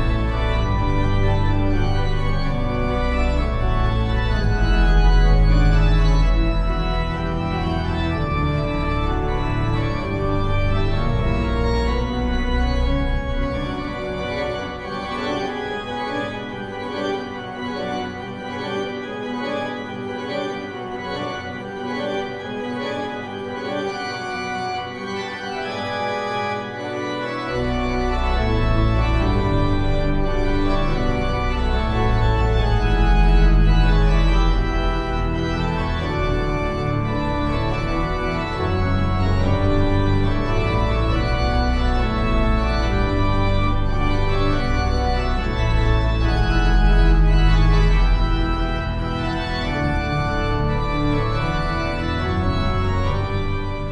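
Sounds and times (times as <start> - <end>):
deep organ bass notes: 0.0 - 53.9
organ playing slow chords: 0.0 - 53.9.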